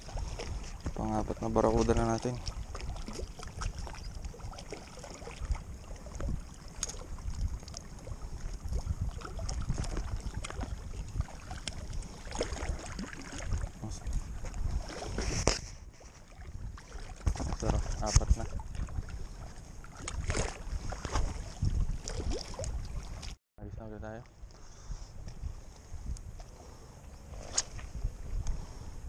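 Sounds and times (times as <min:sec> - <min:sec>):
waves lapping against rocks: 0:00.0 - 0:23.4
wind rumbling on microphone: 0:00.0 - 0:29.0.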